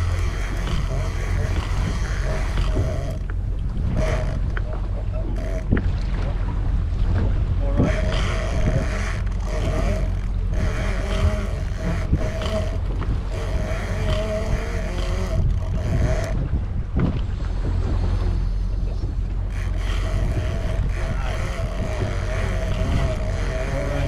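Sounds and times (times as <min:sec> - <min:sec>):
outboard engines rumbling: 0:00.0 - 0:24.0
wind on microphone: 0:00.0 - 0:24.0.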